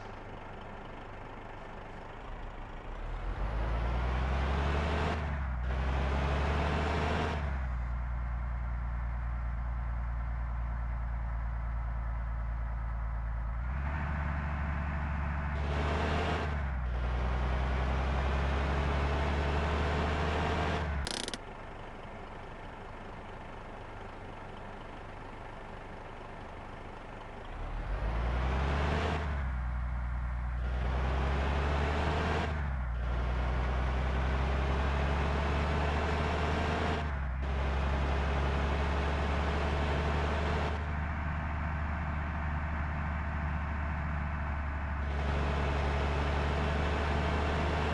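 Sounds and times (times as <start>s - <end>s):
bus diesel engines droning: 0.0s - 47.9s.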